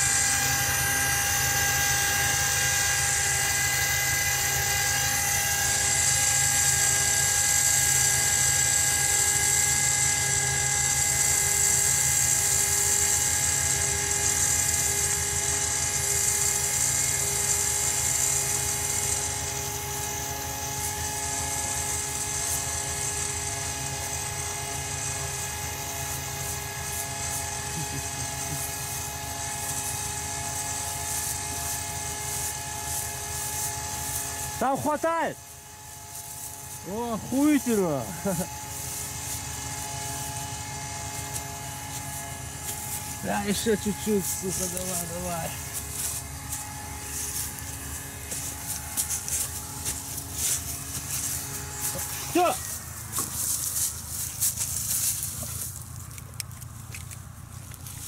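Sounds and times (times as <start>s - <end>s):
electric winch motor whine: 0.0s - 58.0s.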